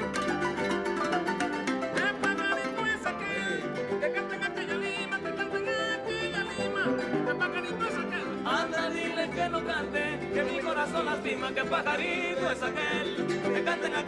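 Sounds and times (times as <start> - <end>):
string trio playing: 0.0 - 14.0.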